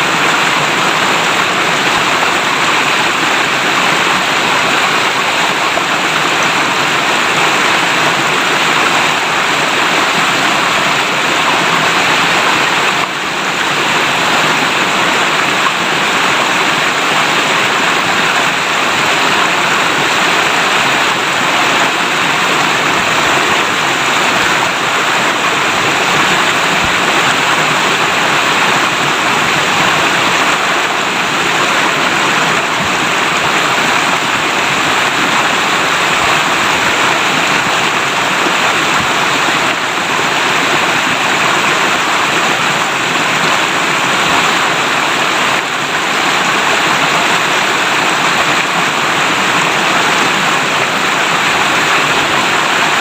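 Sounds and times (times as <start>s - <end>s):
river water rushing over rocks: 0.0s - 53.0s.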